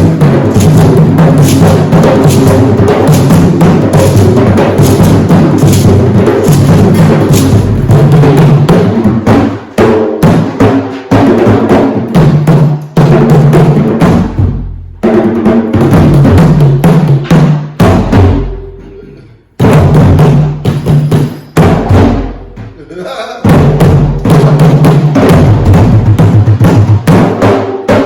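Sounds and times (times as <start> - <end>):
hand drums playing: 0.0 - 28.0.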